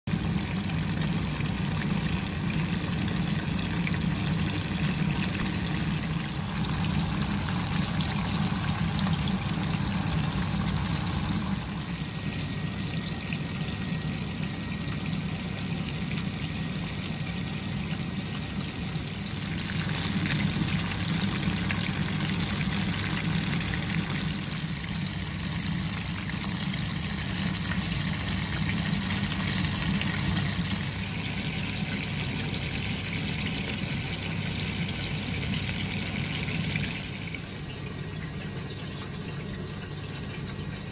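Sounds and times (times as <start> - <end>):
hot oil sizzling and bubbling: 0.1 - 40.9.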